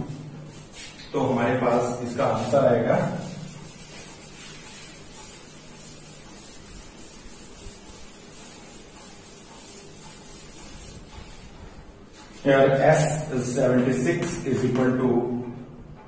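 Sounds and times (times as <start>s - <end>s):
duster rubbing on chalkboard: 0.0s - 15.1s.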